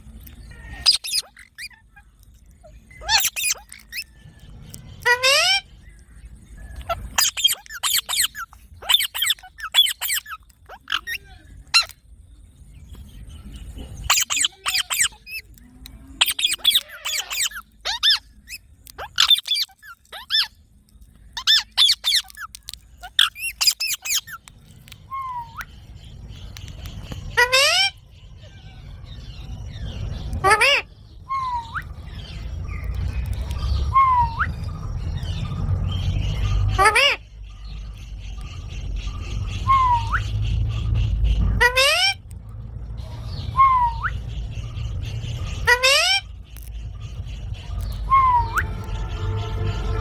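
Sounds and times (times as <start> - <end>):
parakeet shrill calls: 0.5 - 2.0, 2.6 - 4.2, 5.0 - 6.0, 6.7 - 12.0, 14.0 - 15.6, 16.2 - 20.6, 21.3 - 42.4, 43.3 - 50.0.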